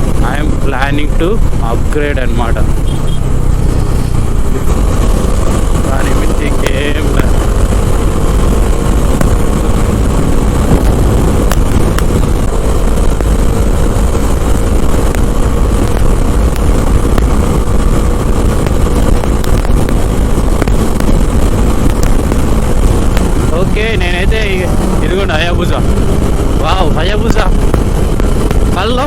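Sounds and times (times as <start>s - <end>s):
motorcycle engine running: 0.0s - 29.0s
wind rushing over microphone: 0.0s - 29.0s.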